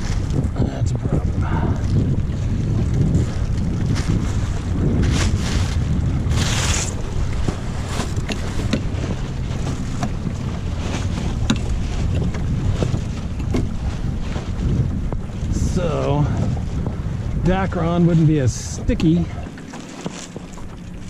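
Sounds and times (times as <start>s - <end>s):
water sloshing on hull: 0.0s - 21.0s
wind buffeting microphone: 0.0s - 21.0s.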